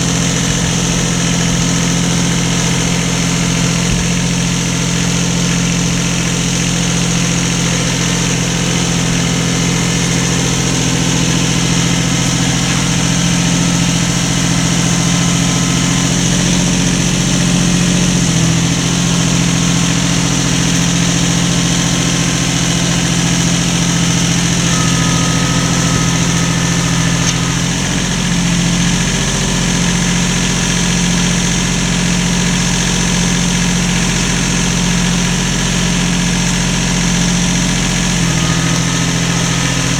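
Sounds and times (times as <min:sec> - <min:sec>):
motor running with low hum: 0:00.0 - 0:39.9.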